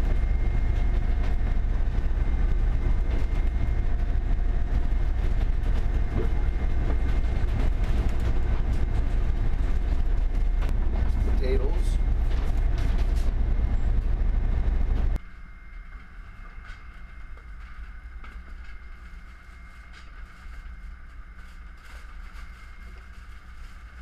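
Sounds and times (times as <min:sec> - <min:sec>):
boat engine droning: 0:00.0 - 0:21.6.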